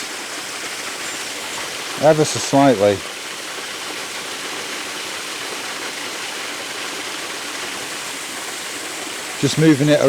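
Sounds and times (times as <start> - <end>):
small waterfall gushing over rocks: 0.0 - 10.0.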